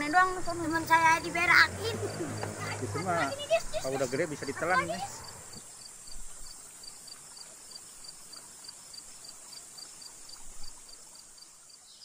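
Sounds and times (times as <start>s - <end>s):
insect chirping: 0.0s - 12.0s
steady insect hiss: 0.0s - 12.0s.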